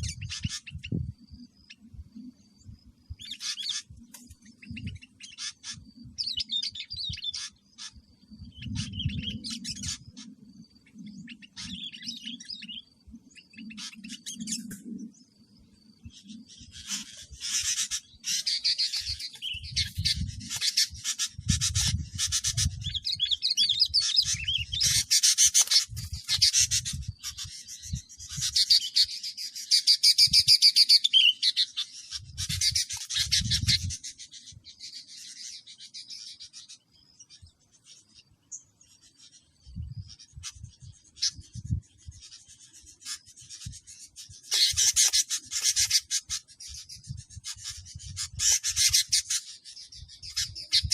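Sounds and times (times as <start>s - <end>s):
birds chattering: 0.0s - 50.9s.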